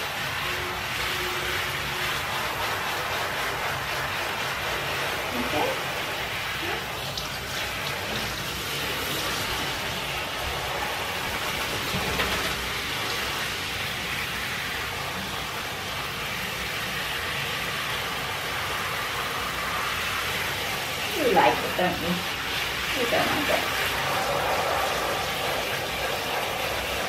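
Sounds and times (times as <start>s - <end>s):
shower head spraying water: 0.0s - 27.0s.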